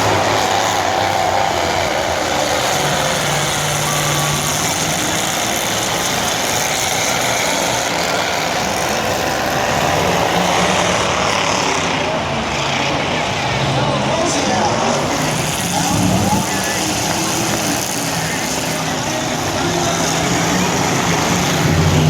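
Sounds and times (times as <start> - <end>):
truck engines running loudly: 0.0 - 22.0.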